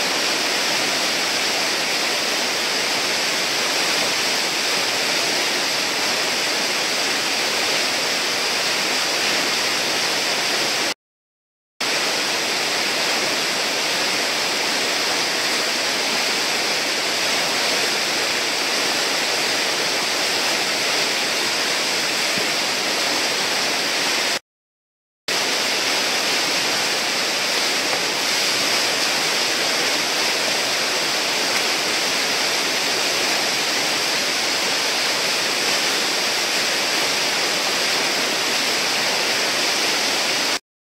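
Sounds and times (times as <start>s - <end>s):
whitewater rushing: 0.0s - 11.0s, 11.8s - 24.4s, 25.3s - 40.6s.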